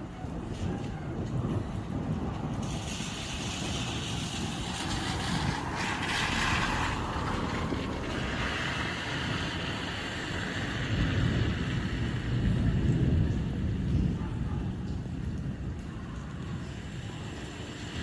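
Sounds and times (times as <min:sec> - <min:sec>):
rain falling: 0:00.0 - 0:18.0
wind buffeting microphone: 0:00.0 - 0:18.0.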